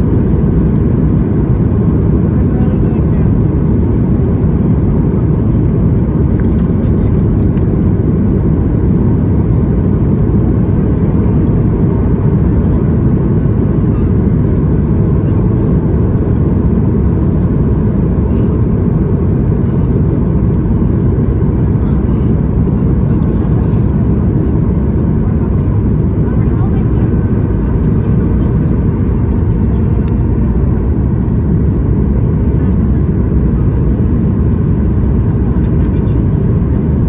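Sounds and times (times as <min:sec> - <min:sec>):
airliner cabin roar: 0:00.0 - 0:37.0.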